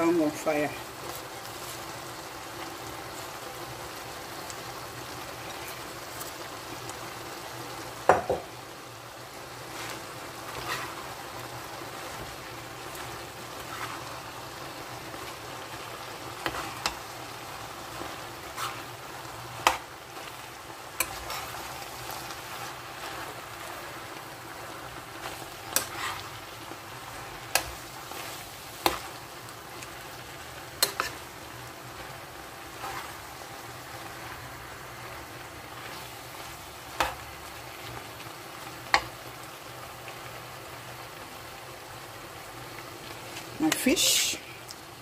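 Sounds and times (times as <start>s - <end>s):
sauce sizzling in a pan: 0.0s - 45.0s.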